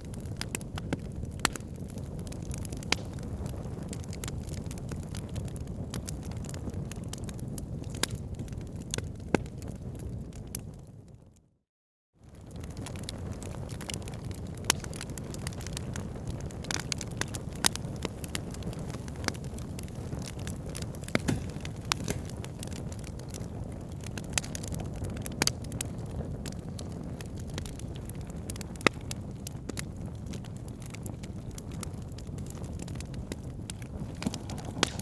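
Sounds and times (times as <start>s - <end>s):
fire crackling and popping: 0.0s - 11.1s, 12.2s - 35.0s
fire flames rumbling: 0.0s - 11.2s, 12.2s - 35.0s.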